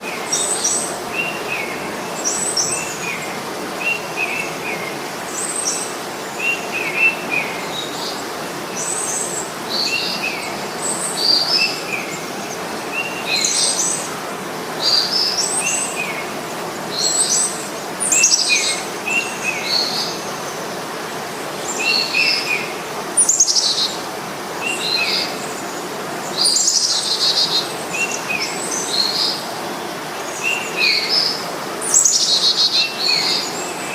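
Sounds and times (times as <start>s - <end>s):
songbirds chirping: 0.0s - 33.9s
steady background hiss: 0.0s - 33.9s.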